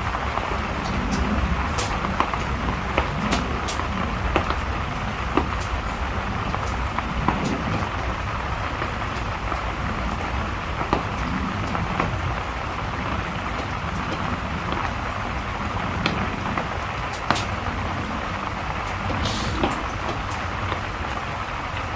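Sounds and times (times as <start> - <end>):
fire crackling and popping: 0.0 - 21.9
low rumble: 0.0 - 21.9
steady rain: 0.0 - 21.9.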